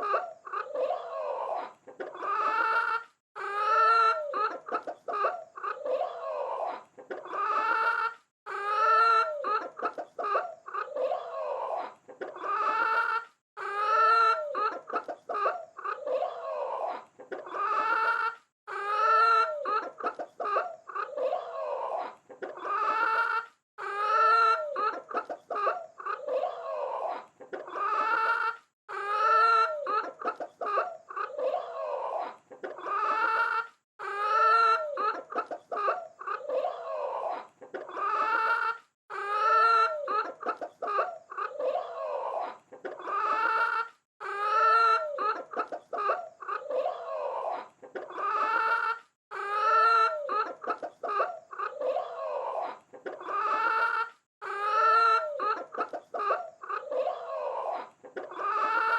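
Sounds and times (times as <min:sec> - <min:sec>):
chickens clucking and squawking: 0:00.0 - 0:58.9.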